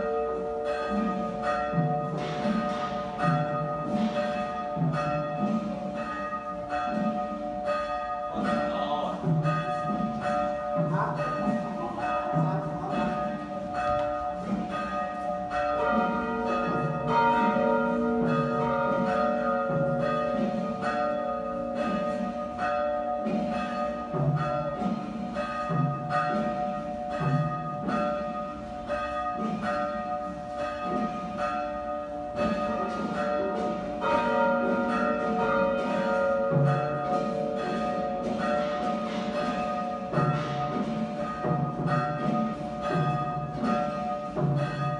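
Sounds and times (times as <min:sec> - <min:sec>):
church bells tolling: 0:00.0 - 0:44.9.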